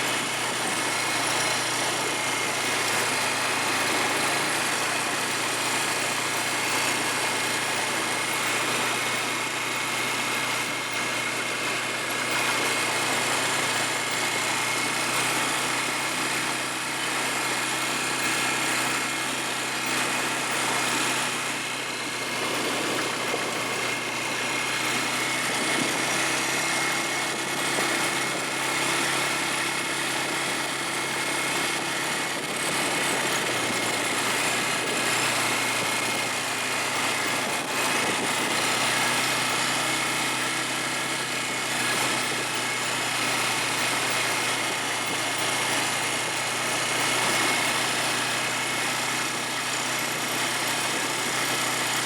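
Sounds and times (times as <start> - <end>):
quad bike engine running: 0.0 - 52.0.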